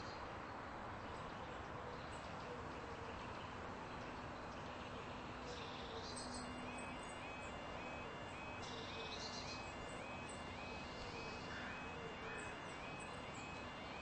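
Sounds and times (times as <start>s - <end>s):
low hiss and hum: 0.0s - 14.0s
faint bird chirps: 2.0s - 14.0s.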